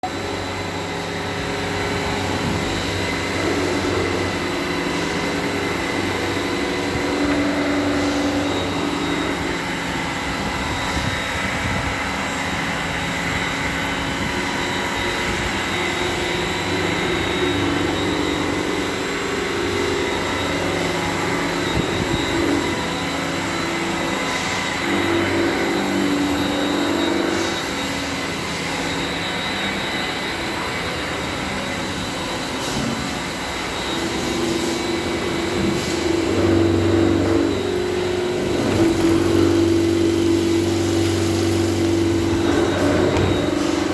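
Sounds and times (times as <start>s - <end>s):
constant whining tones: 0.0s - 43.9s
milling machines droning: 0.0s - 43.9s.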